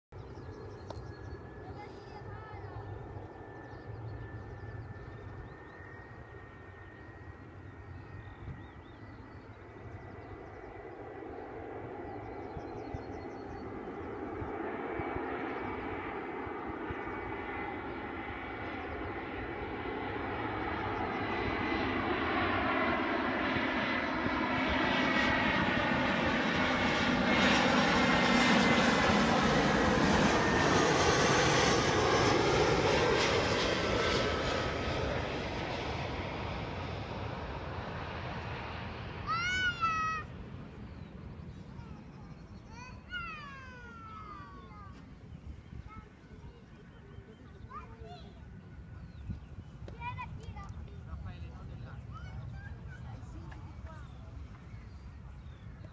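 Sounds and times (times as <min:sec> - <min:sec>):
jet airliner engines roaring: 0:00.2 - 0:55.9.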